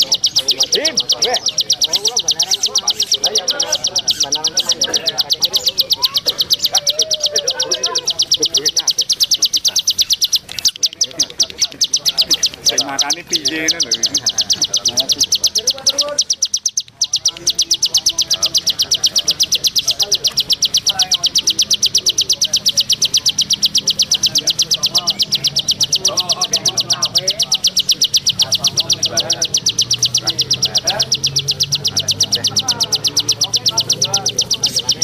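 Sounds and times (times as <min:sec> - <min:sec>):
faint bird chirps: 0:00.0 - 0:35.0
songbird trilling: 0:00.0 - 0:35.0.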